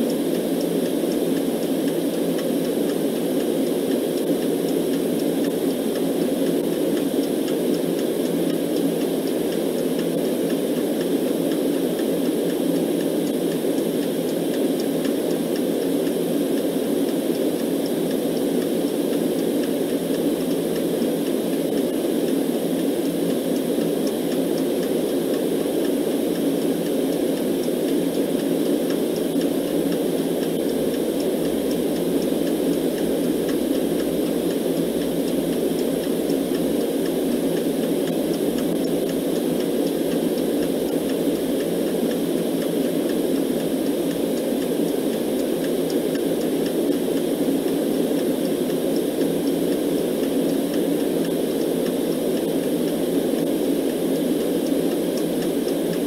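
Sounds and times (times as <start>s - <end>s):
faint clock ticking: 0.0s - 56.0s.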